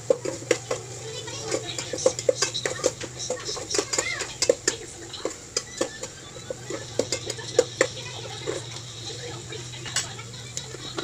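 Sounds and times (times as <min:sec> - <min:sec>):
utensils and dishes clattering: 0:00.0 - 0:11.0.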